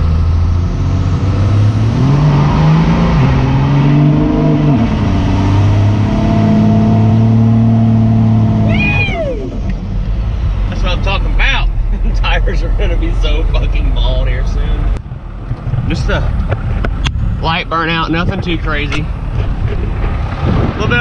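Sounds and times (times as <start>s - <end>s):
diesel truck engine at full throttle: 0.0s - 21.0s.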